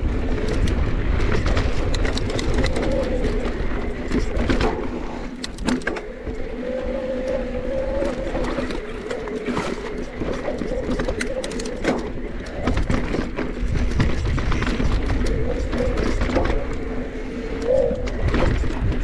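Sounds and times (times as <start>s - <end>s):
electric bike motor whining: 0.0s - 19.0s
low rumble of wind: 0.0s - 19.0s.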